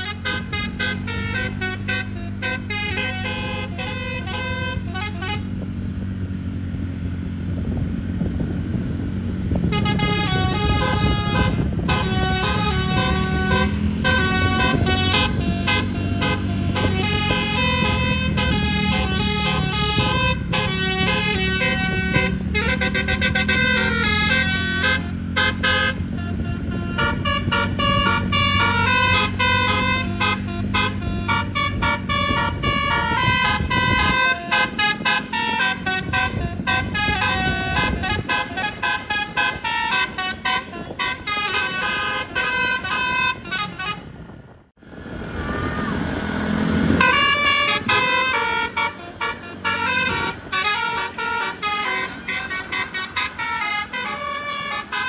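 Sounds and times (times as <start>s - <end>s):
bus horn playing melody: 0.0s - 6.2s, 9.4s - 44.4s, 46.5s - 55.0s
low engine hum: 0.0s - 55.0s.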